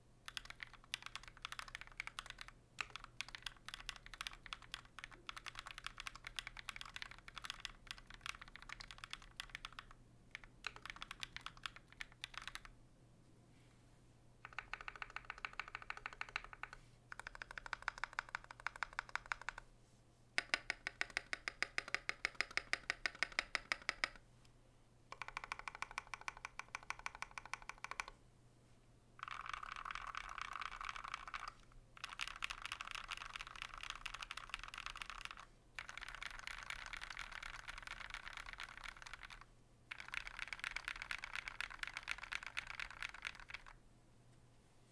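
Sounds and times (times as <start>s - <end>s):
mechanical keyboard typing: 0.3s - 12.7s, 14.4s - 19.6s, 20.4s - 24.2s, 25.1s - 28.2s, 29.2s - 43.8s.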